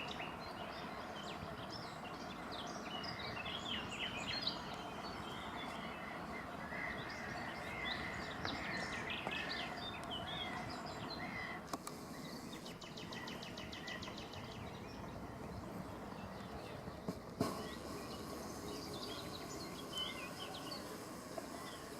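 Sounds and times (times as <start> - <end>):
background hiss: 0.0 - 21.9
birds chirping: 0.0 - 21.9
rapid run of ticks: 0.0 - 21.9.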